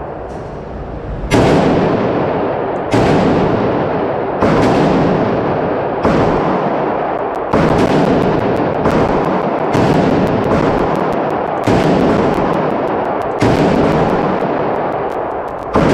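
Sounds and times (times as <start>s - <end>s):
rifle shots echoing indoors: 1.1s - 15.9s.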